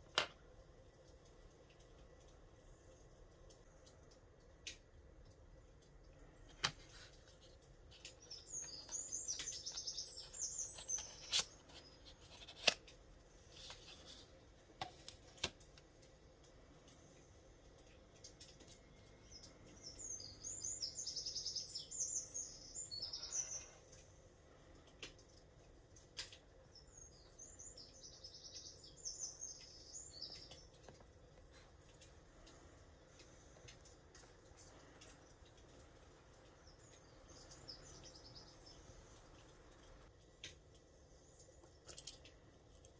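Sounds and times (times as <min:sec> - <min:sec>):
songbird chirping trill: 0:01.1 - 0:42.5.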